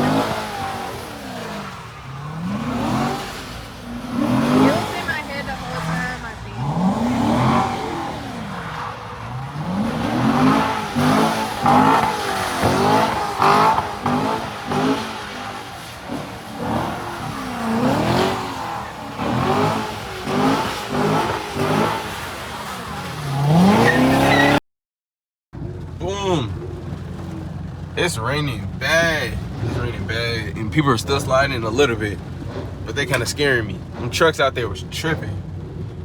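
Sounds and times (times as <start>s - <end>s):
car engines revving hard: 0.0s - 24.6s, 25.6s - 36.0s.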